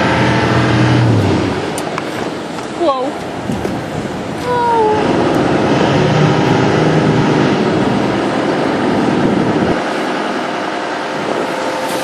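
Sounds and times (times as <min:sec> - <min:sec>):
aircraft engines rumbling low: 0:00.0 - 0:12.0.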